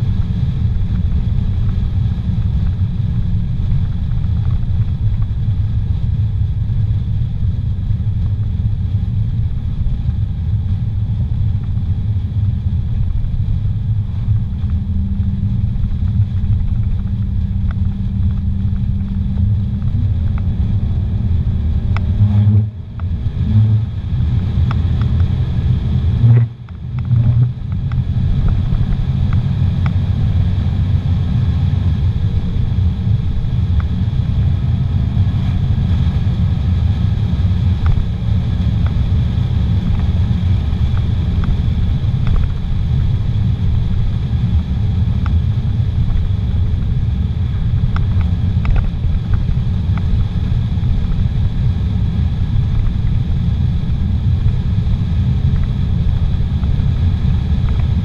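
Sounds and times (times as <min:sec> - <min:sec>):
car engine rumble: 0:00.0 - 0:58.0.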